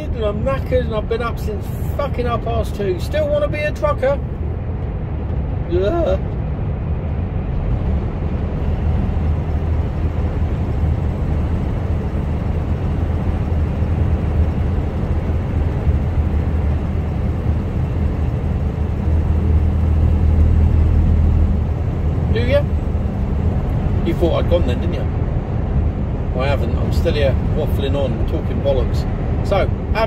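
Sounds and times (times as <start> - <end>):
truck engine drone: 0.0 - 30.0
tyre and road rumble: 3.5 - 30.0.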